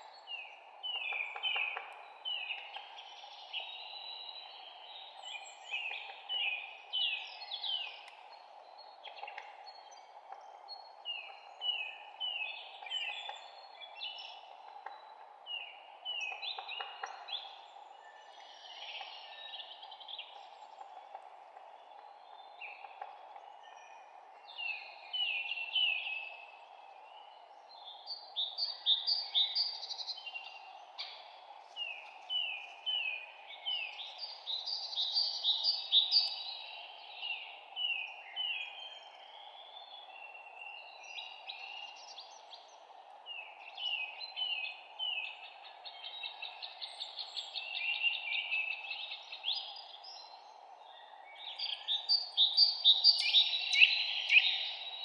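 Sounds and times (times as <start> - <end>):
songbirds chirping: 0.0 - 55.0
steady low background hiss: 0.0 - 55.0.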